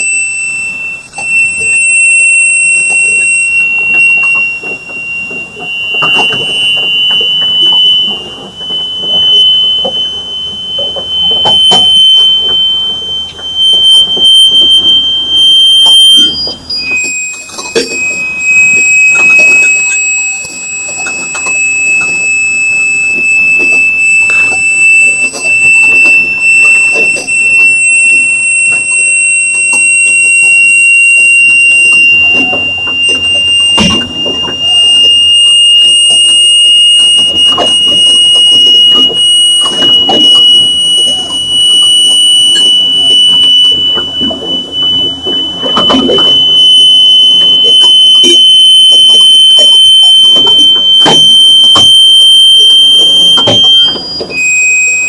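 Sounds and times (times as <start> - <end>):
high-pitched whine: 0.0 - 55.0.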